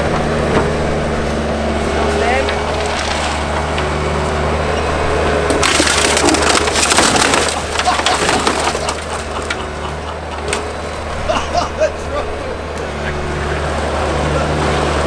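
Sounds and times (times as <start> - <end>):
car body crunching and crackling: 0.0 - 15.0
engine running: 0.0 - 15.0.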